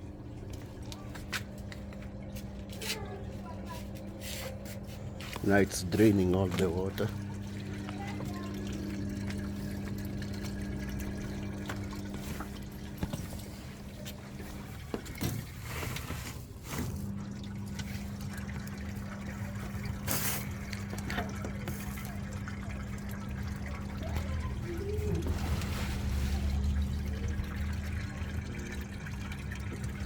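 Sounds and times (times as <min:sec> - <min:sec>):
drain pump humming: 0:00.0 - 0:30.0
water running: 0:00.0 - 0:30.0.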